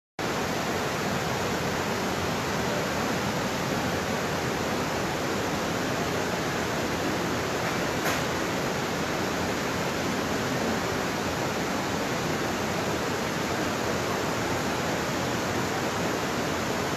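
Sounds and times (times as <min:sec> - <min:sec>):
river rushing over rapids: 0:00.2 - 0:16.9.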